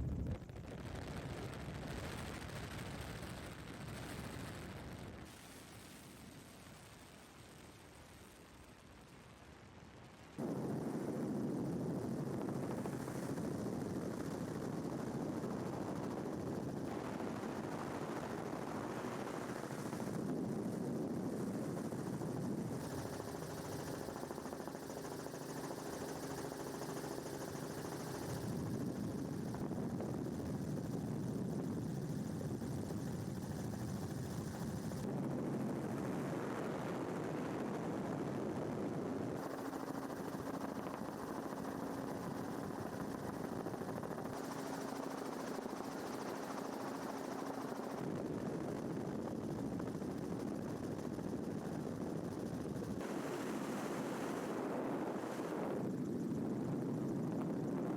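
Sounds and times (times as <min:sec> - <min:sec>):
aircraft engine and rotor noise: 0:10.4 - 0:57.9.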